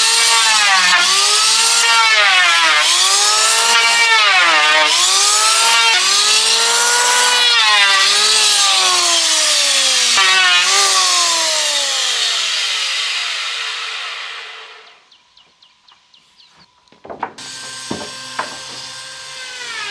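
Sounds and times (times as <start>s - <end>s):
power saw cutting wood: 0.0s - 15.0s, 17.3s - 19.9s.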